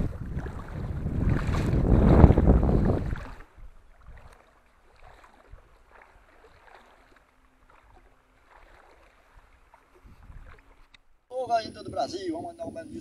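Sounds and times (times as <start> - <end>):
soft little splashes: 0.0 - 11.2
water ripples lapping: 0.0 - 11.3.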